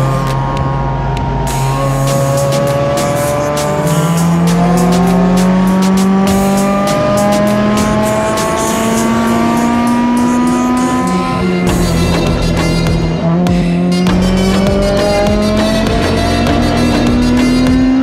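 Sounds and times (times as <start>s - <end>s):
car engine accelerating: 0.0s - 18.0s
song with a beat: 0.0s - 18.0s.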